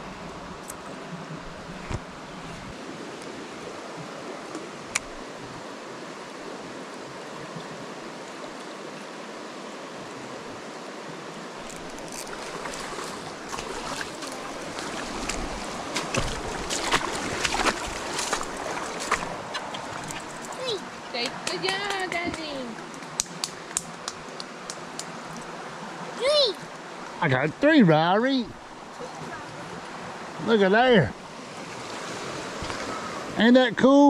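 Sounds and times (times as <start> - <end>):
rocky creek flowing: 0.0 - 34.0.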